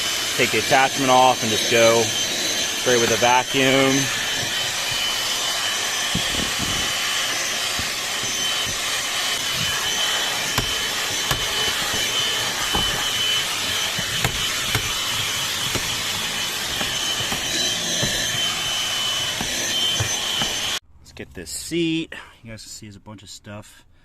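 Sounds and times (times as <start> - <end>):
handheld vacuum motor whine: 0.0 - 20.8
nozzle knocking and scraping: 0.0 - 20.8.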